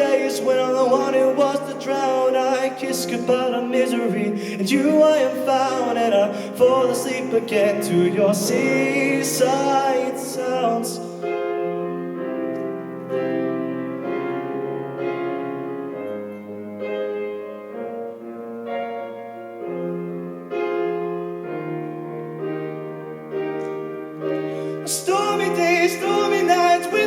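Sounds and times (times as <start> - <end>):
piano chords over bass line: 0.0 - 27.0.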